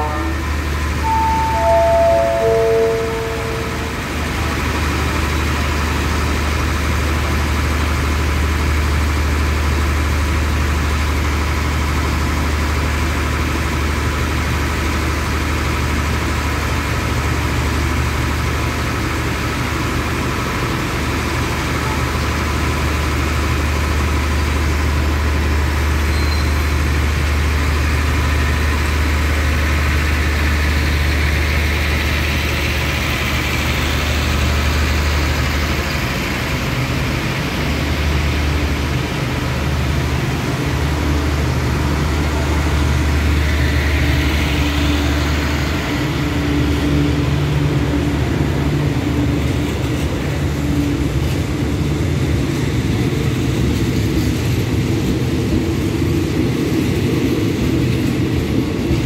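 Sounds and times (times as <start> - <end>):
diesel train idling hum: 0.0 - 59.0
train rolling rumble: 0.0 - 59.0.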